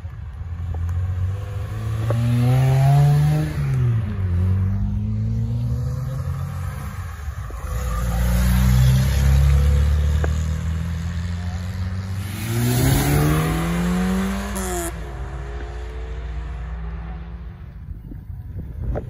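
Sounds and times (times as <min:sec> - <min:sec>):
car engine revving accelerating: 0:01.2 - 0:07.0, 0:07.6 - 0:17.4.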